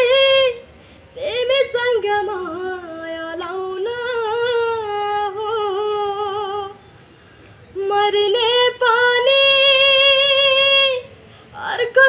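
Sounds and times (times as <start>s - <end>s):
boy singing unaccompanied: 0.0s - 12.0s.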